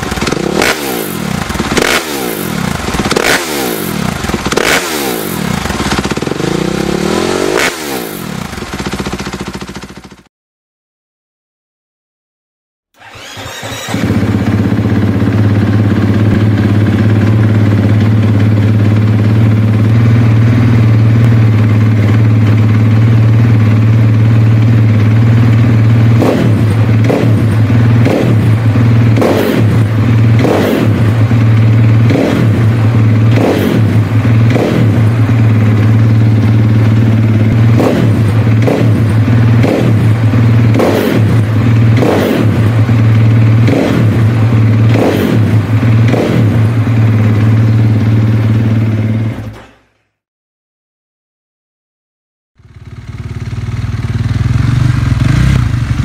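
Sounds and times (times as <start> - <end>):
motorcycle engine idling and revving: 0.0 - 10.3, 13.0 - 50.2, 52.6 - 56.0.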